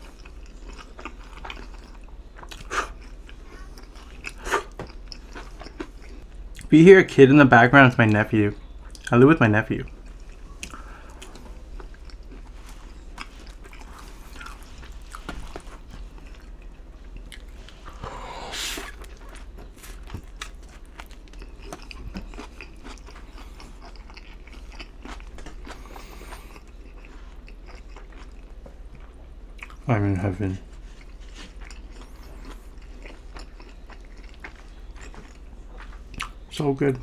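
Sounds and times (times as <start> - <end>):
chewing crunchy pizza: 0.0 - 6.7, 7.9 - 37.0.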